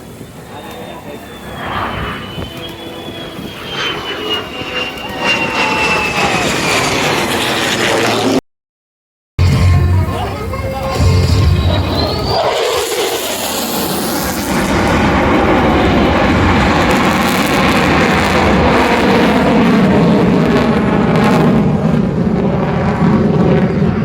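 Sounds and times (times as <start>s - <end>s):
aircraft engine roar: 0.0s - 8.4s, 9.4s - 24.0s.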